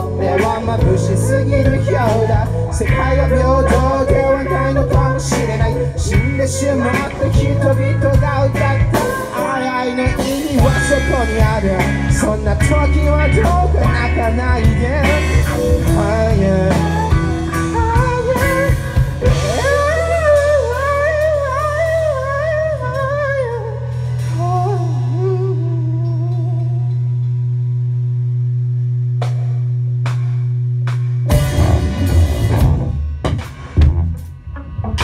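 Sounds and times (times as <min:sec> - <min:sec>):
bass guitar: 0:00.0 - 0:35.0
drum kit: 0:00.0 - 0:35.0
electric guitar: 0:00.0 - 0:35.0.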